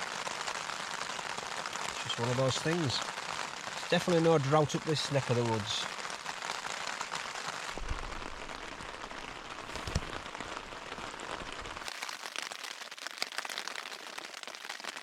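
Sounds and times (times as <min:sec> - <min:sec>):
rain on tent fabric: 0:00.0 - 0:15.0.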